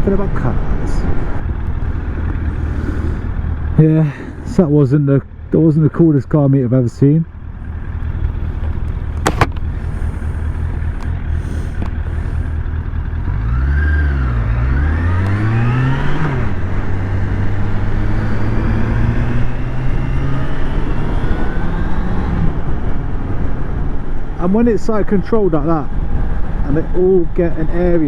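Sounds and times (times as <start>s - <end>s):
motorcycle engine: 0.0s - 26.7s.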